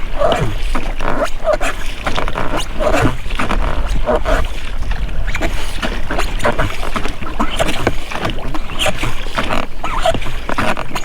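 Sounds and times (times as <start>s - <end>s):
rubber rowlocks creaking: 0.0s - 11.0s
water splashing off oars: 0.0s - 11.0s.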